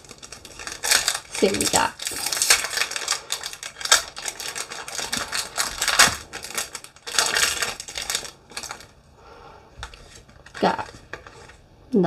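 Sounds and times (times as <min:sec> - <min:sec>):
trading cards rustling: 0:00.0 - 0:09.0, 0:09.7 - 0:11.6
foil wrapper crinkling and tearing: 0:00.0 - 0:09.1, 0:09.7 - 0:11.6.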